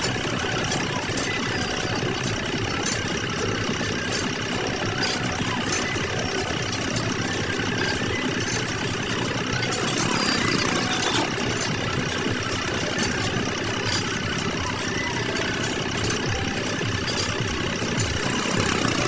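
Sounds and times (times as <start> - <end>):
motor running steadily: 0.0 - 19.0.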